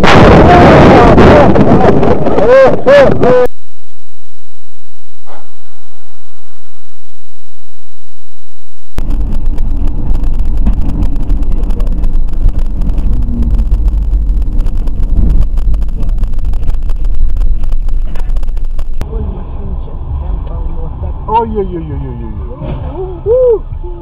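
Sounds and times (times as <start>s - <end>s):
car road and wind noise: 0.0s - 3.5s, 5.0s - 24.0s.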